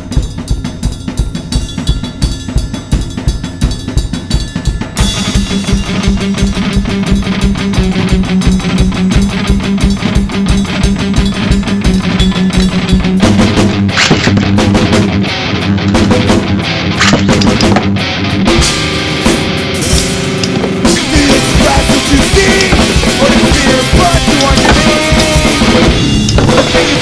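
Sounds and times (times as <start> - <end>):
rock music with fast drums: 0.0 - 27.0.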